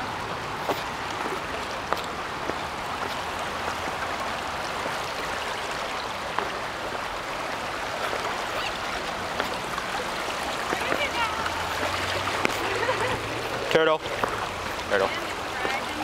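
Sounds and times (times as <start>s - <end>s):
river water rushing over stones: 0.0s - 16.0s.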